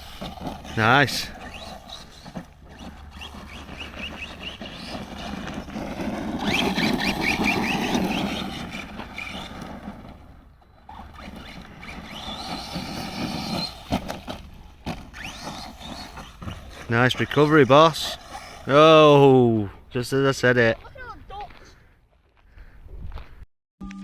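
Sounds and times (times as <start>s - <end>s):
electric motor whining: 0.0s - 19.4s
tyres crunching on dirt: 0.0s - 23.4s.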